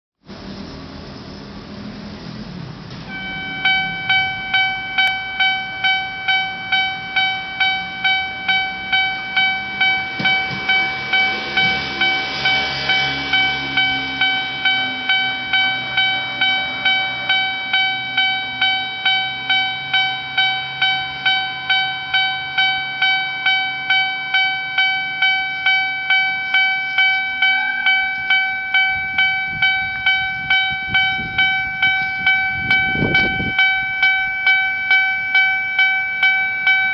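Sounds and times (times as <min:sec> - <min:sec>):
engine rumbling: 0:00.2 - 0:36.9
level crossing warning bell: 0:03.1 - 0:36.9.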